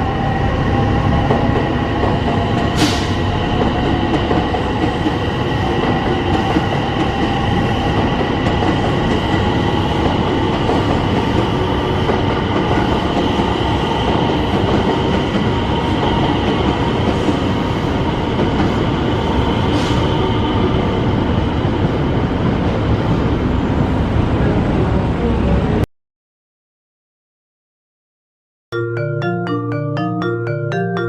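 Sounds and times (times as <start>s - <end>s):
train wheels rumbling on rail: 0.0s - 25.8s.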